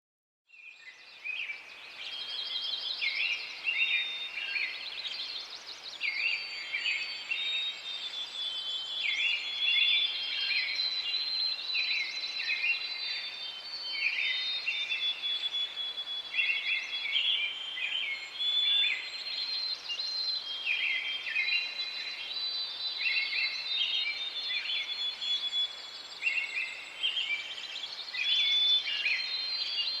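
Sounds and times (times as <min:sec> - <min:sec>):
birds chirping and singing: 0:00.8 - 0:30.0.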